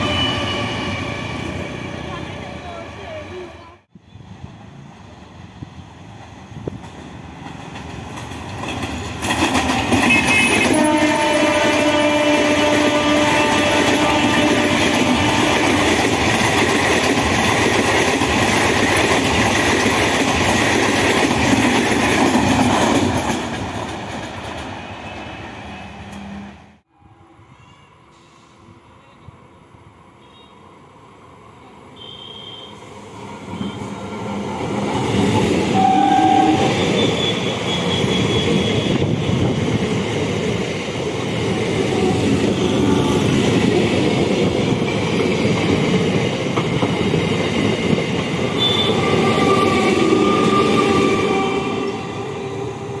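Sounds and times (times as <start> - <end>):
train passing rumble: 0.0 - 32.1, 32.8 - 53.0.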